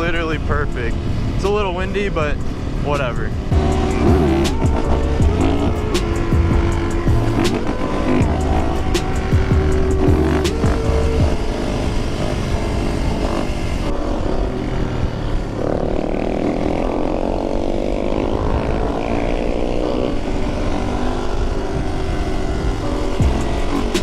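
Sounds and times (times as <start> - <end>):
motorcycle engine revving: 0.0 - 24.0
wind rushing over microphone: 0.0 - 24.0.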